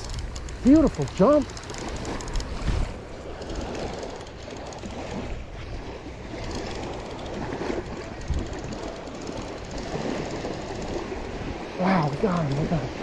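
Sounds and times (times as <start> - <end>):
fishing reel whirring and clicking: 0.0 - 5.5, 6.2 - 12.8
surf: 0.0 - 13.0
wind rumbling on microphone: 0.0 - 13.0.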